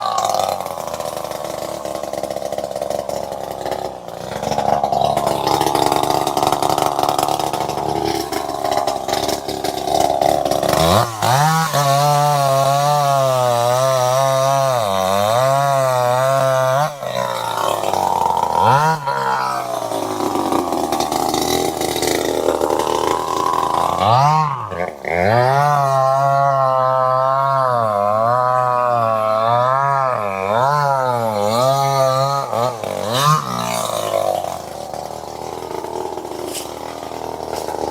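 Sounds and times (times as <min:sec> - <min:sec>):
chainsaw engine running: 0:00.0 - 0:37.9.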